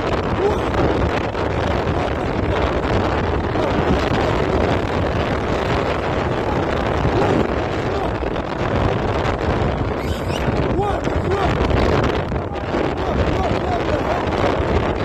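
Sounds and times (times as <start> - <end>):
vehicle engine and tyre noise: 0.0 - 15.0
wind buffeting microphone: 0.0 - 15.0.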